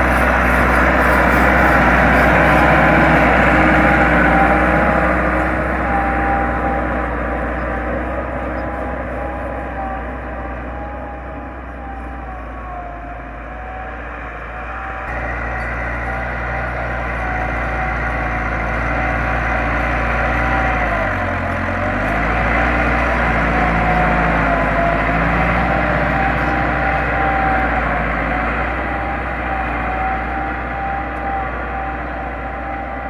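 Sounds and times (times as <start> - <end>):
tractor diesel engine running: 0.0 - 33.0
whine over engine: 0.0 - 33.0.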